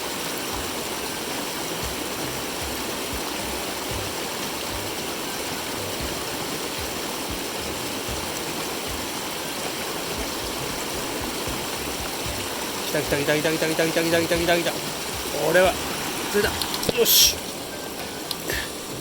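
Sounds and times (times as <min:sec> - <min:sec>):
stream water flowing over rocks: 0:00.0 - 0:19.0.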